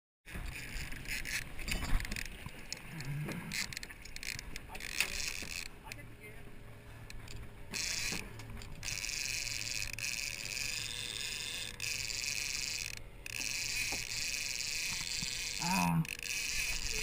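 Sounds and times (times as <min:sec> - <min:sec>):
fishing reel drag buzzing: 0:00.3 - 0:06.0, 0:07.0 - 0:17.0.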